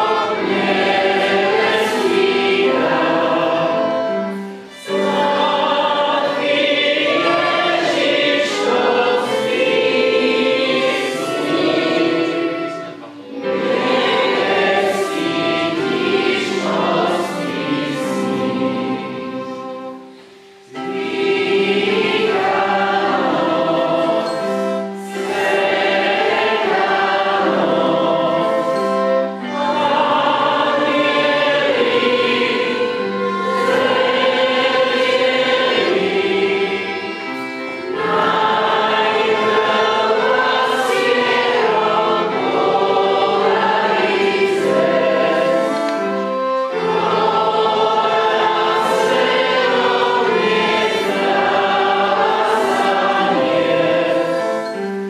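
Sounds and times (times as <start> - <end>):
group singing a carol: 0.0 - 55.0.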